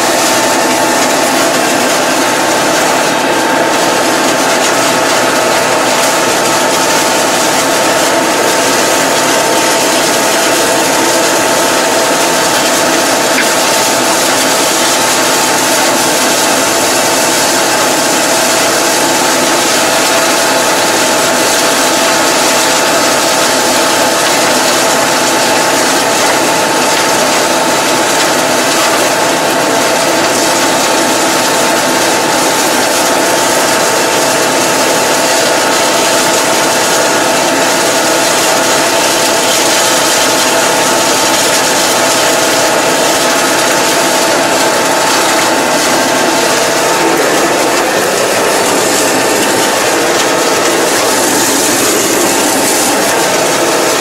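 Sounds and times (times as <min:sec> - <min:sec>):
tractor engine running: 0:00.0 - 0:36.0, 0:40.5 - 0:54.0
high mechanical whine: 0:00.0 - 0:54.0.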